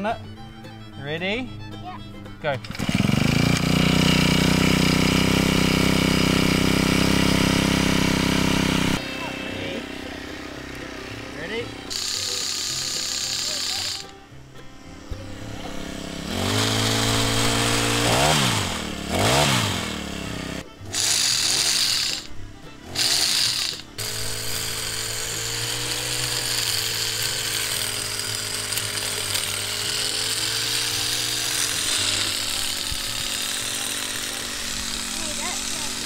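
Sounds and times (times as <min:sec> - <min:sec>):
blades cutting hedge: 0:00.0 - 0:36.0
hedge trimmer engine revving: 0:00.0 - 0:36.0.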